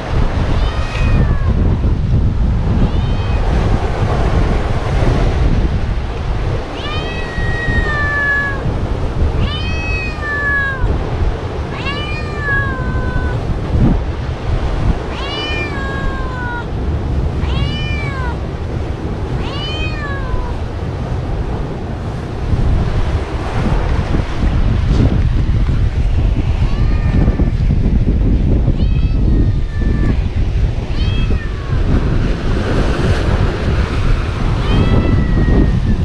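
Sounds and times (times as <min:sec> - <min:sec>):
low wind-like noise: 0:00.0 - 0:36.0.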